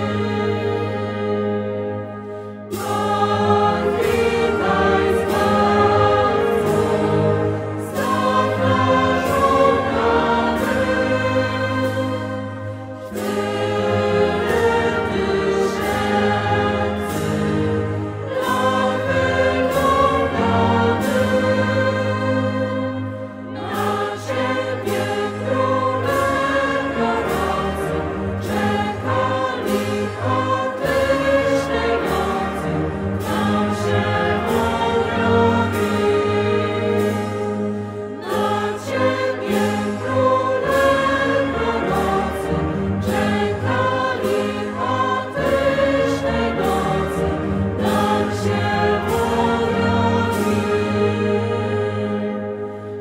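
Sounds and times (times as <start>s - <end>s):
mixed choir singing a carol: 0.0s - 53.0s
wind band of saxophones and brass: 0.0s - 53.0s.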